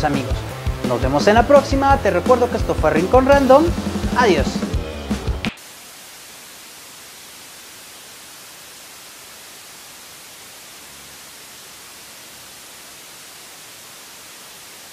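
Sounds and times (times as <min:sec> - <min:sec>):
television static hiss: 0:00.0 - 0:14.9.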